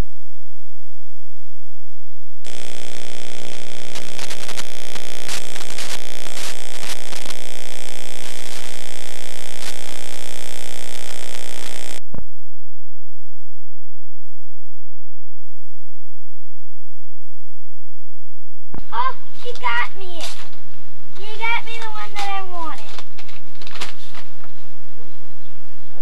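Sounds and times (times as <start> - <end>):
electrical buzz with crackling static: 0.0 - 26.0.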